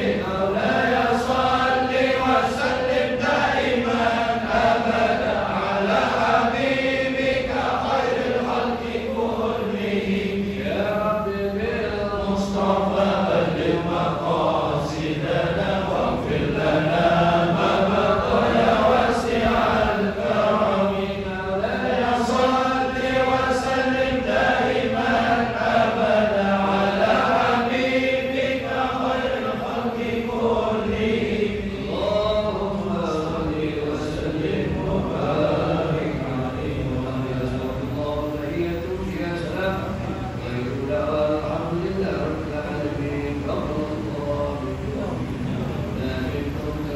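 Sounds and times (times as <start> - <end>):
congregation chanting in unison: 0.0 - 46.9.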